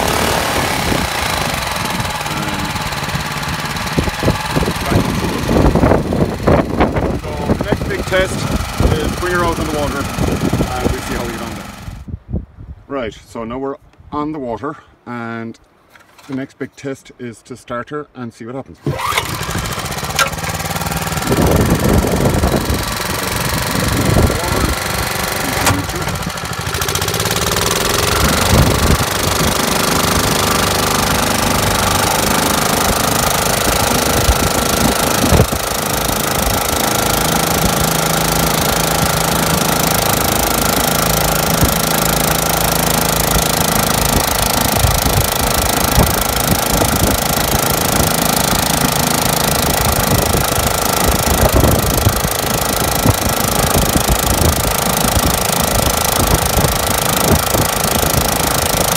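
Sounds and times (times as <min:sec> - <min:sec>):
outboard engine running: 0:00.0 - 0:12.1, 0:18.8 - 0:58.9.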